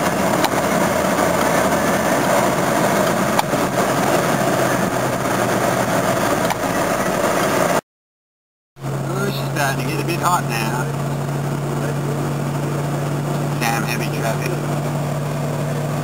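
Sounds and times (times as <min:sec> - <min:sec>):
car engine and road noise: 0:00.0 - 0:07.8, 0:08.8 - 0:16.0.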